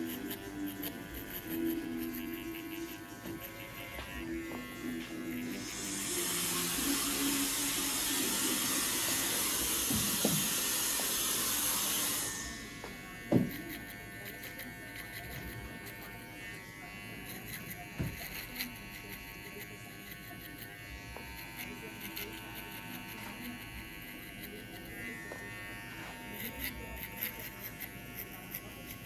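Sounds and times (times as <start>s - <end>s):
hair clippers buzzing: 0.0s - 29.0s.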